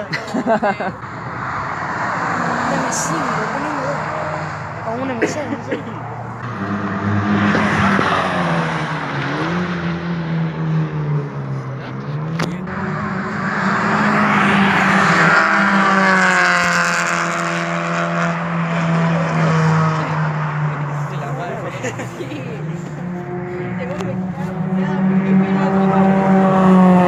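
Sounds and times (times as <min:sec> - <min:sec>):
car engine at high revs: 0:00.0 - 0:27.0.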